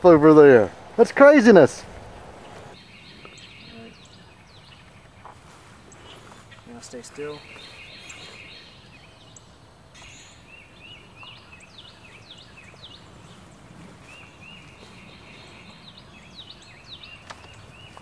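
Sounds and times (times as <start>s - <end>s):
outdoor background noise: 0.0s - 18.0s
songbirds chirping: 0.0s - 18.0s.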